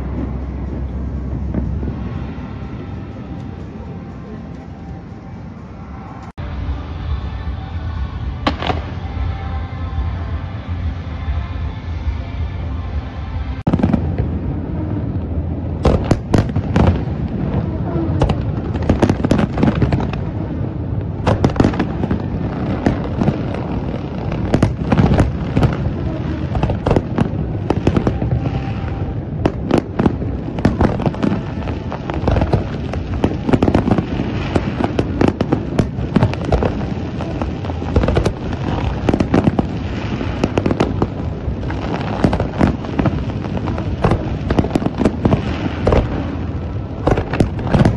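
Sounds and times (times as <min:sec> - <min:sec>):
fireworks bangs: 0:00.0 - 0:04.4, 0:08.3 - 0:10.1, 0:13.6 - 0:47.9
low rumble of explosions: 0:00.0 - 0:47.9.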